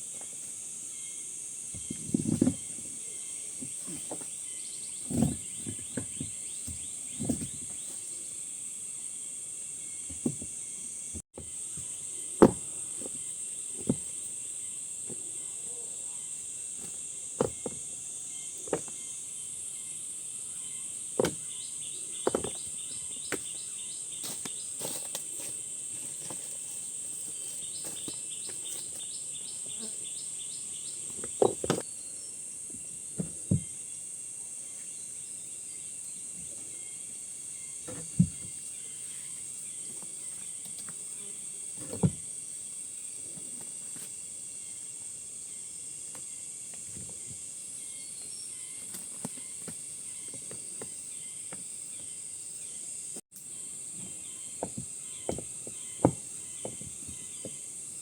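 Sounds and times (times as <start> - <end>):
continuous high hiss: 0.0 - 58.0
insects chirping: 0.0 - 58.0.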